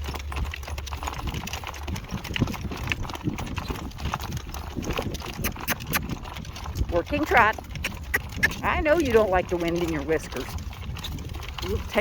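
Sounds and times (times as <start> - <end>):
horse hooves clip-clopping on road: 0.0 - 12.0.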